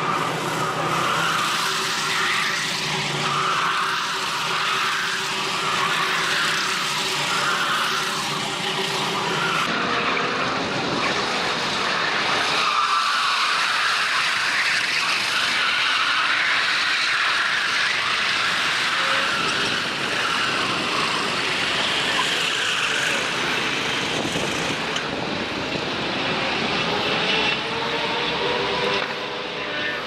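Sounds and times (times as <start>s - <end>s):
kart engines at high revs: 0.0s - 30.0s.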